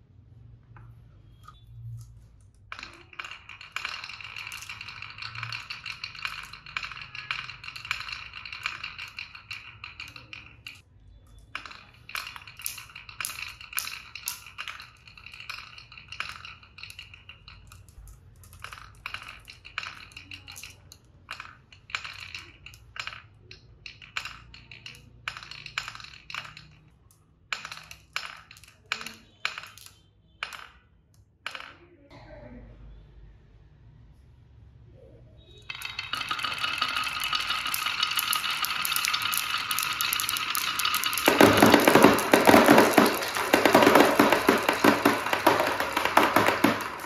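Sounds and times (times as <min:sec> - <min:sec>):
marbles rolling and clicking: 0:00.7 - 0:31.9, 0:35.6 - 0:47.0.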